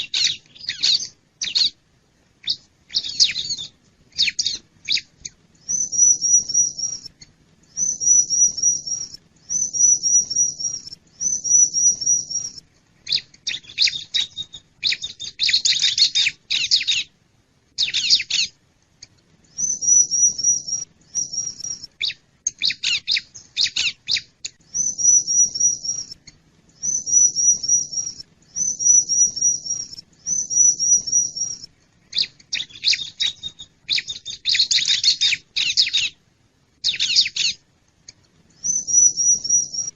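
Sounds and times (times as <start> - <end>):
bird song with falling notes: 2.4 - 17.1, 19.5 - 36.2, 38.6 - 39.9.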